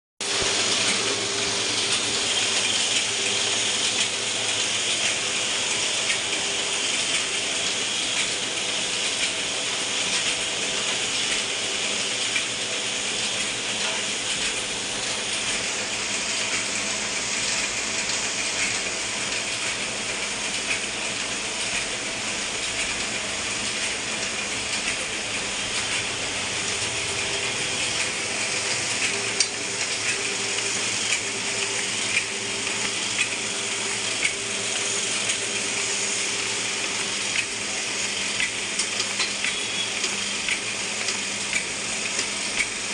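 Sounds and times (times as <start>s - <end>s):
printing press running: 0.2s - 42.9s.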